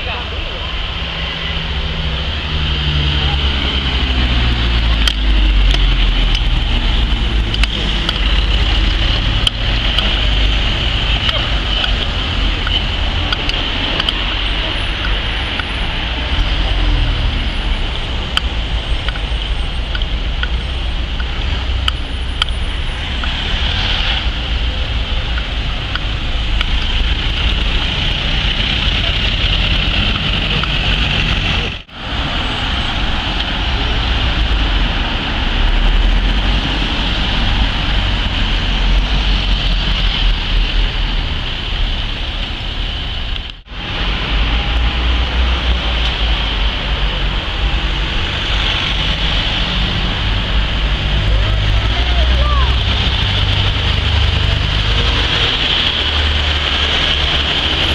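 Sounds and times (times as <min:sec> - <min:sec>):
vehicles driving past: 0:00.0 - 0:57.9.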